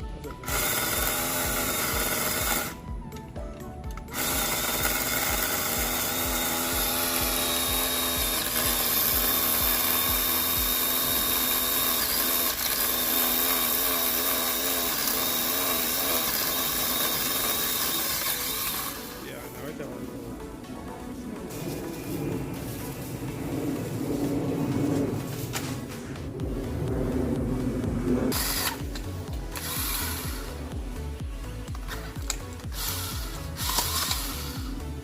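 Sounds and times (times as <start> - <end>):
electric pole saw running: 0.0 - 19.8, 26.6 - 35.0.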